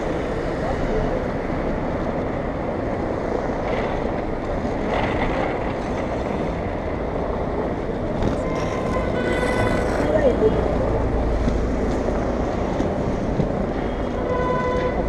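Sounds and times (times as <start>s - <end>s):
city traffic: 0.0s - 15.0s
skate wheels rolling on asphalt: 0.0s - 15.0s.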